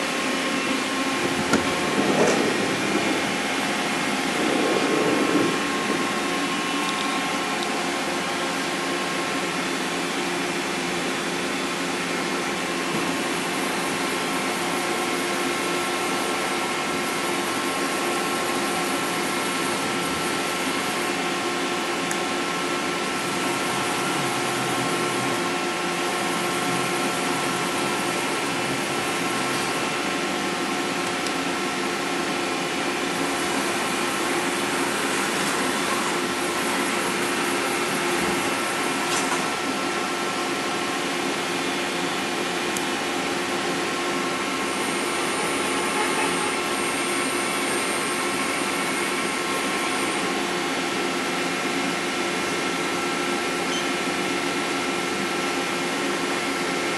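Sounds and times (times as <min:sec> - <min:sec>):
machine spindle whine: 0:00.0 - 0:56.9.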